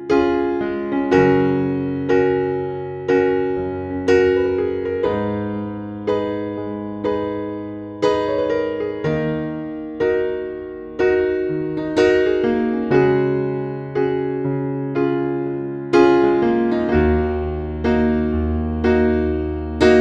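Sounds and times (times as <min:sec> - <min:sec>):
keyboard playing slow chords: 0:00.0 - 0:20.0.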